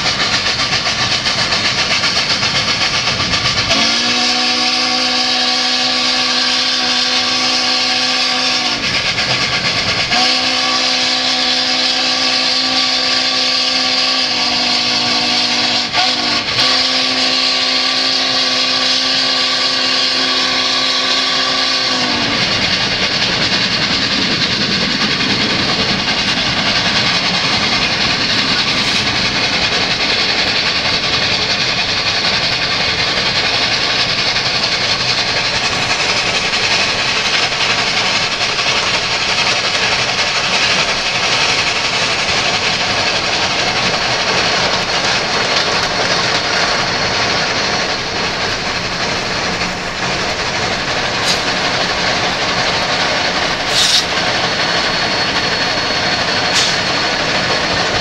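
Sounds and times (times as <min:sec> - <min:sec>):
steam train rushing: 0:00.0 - 0:58.0.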